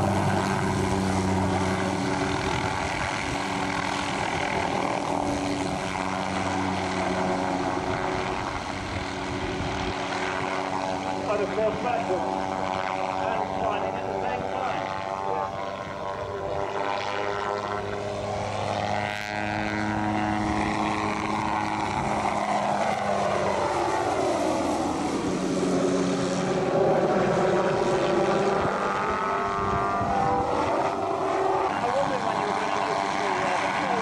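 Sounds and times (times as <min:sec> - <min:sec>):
helicopter turbine and rotor: 0:00.0 - 0:34.0.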